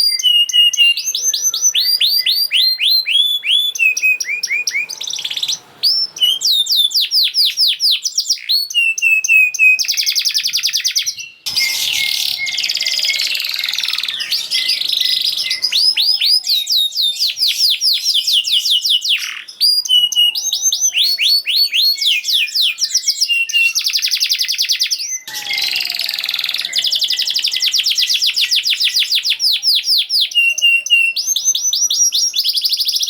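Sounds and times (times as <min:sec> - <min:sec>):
canary singing fast trills: 0:00.0 - 0:33.0.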